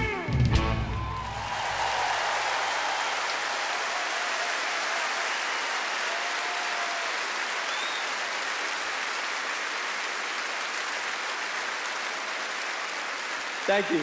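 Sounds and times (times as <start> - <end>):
large audience applauding: 0.8 - 14.0.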